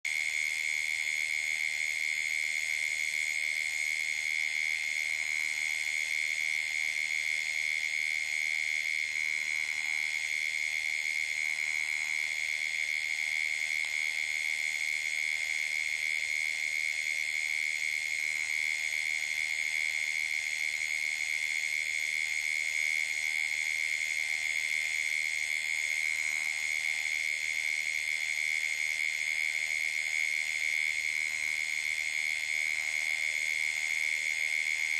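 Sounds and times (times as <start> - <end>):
insects and frogs trilling: 0.1 - 34.9.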